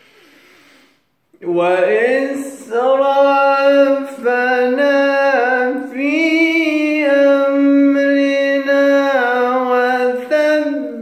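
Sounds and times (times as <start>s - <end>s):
person chanting quran recitation: 1.4s - 11.0s.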